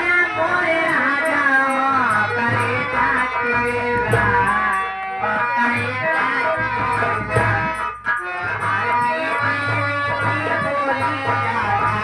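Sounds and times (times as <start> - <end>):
low drum beats: 1.7 - 12.0.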